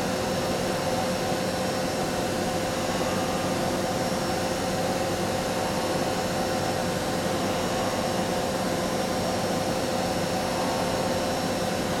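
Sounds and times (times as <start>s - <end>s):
steady machine whine: 0.0s - 12.0s.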